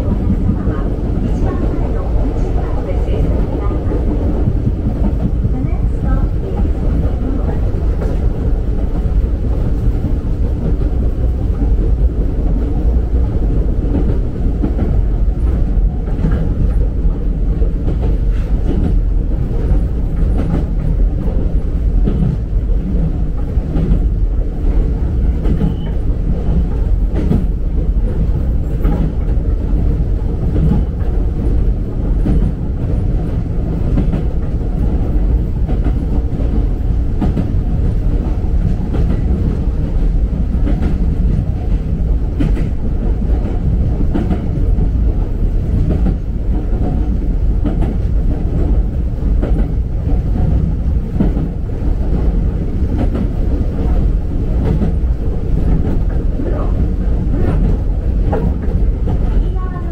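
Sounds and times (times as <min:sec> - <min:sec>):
low rumble of train wheels: 0:00.0 - 0:59.9.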